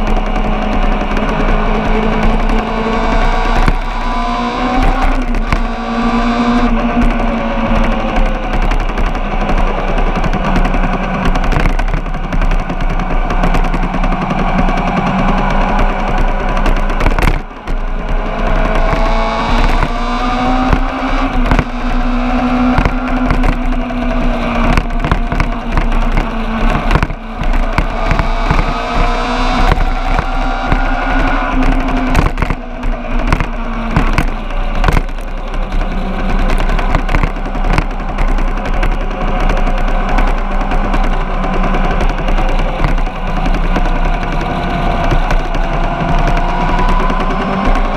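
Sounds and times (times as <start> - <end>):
engine revving high: 0.0 - 47.9
rapid rattle: 0.0 - 47.9.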